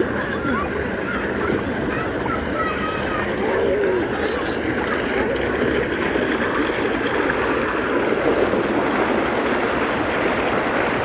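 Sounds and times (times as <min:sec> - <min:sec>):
water rushing and splashing: 0:00.0 - 0:11.0.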